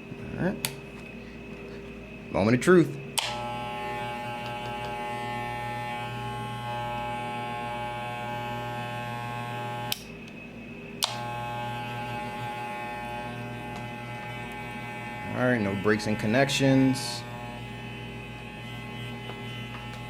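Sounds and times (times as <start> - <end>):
electric hair clippers buzzing: 3.1 - 20.0.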